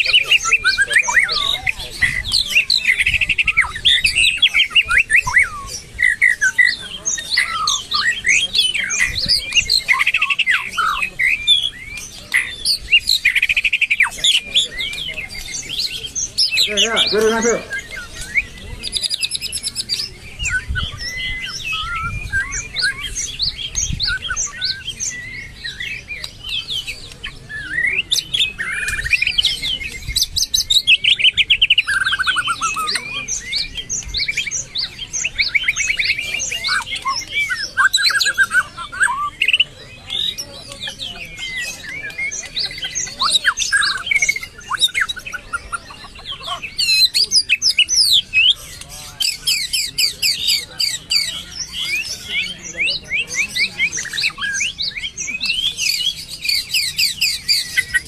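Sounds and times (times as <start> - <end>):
bird singing trills and whistles: 0.0 - 58.0.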